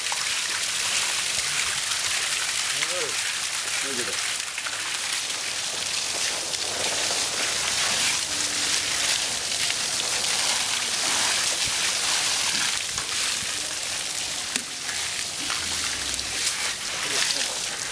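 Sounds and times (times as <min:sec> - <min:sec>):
water splashing from garden hose: 0:00.0 - 0:17.9.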